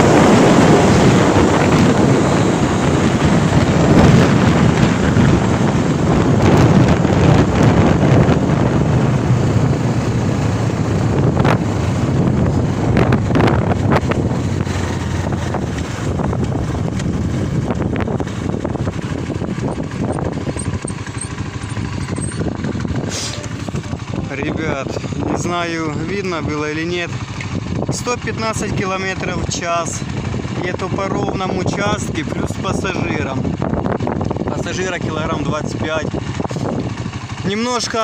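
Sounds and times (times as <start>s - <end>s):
motorcycle engine running fast: 0.0s - 38.0s
wind buffeting microphone: 0.0s - 38.0s.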